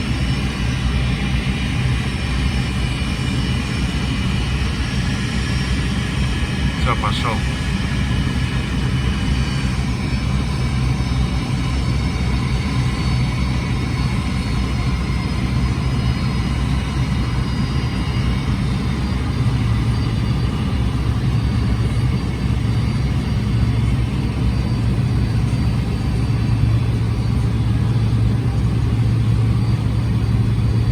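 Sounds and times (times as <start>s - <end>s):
engine rumble: 0.0s - 30.9s.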